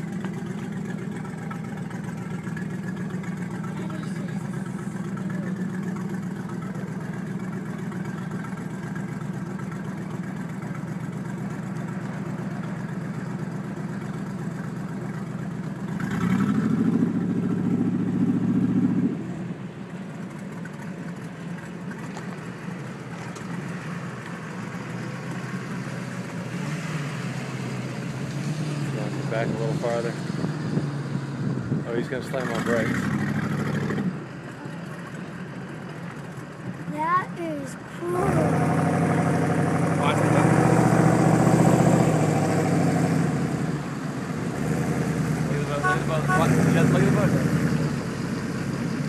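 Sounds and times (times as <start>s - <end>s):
vehicle engine idling and revving: 0.0s - 49.0s.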